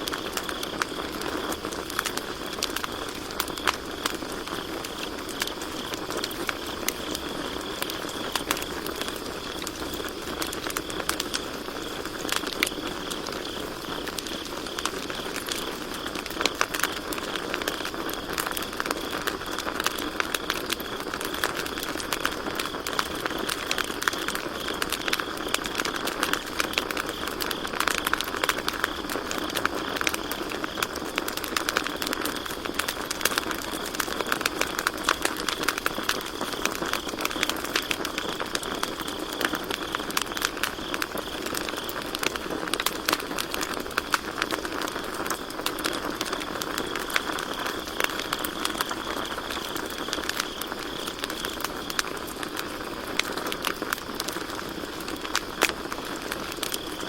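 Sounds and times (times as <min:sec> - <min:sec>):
campfire crackling and popping: 0:00.0 - 0:57.0
crickets chirping: 0:00.0 - 0:57.0.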